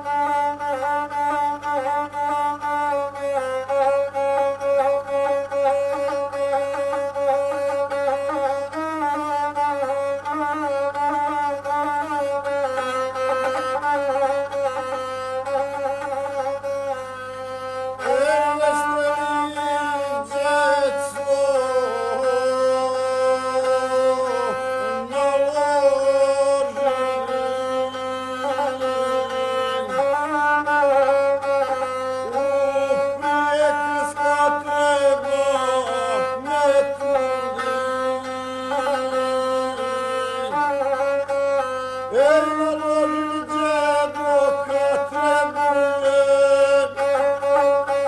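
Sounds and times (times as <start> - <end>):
bowed one-stringed fiddle melody: 0.0 - 48.0.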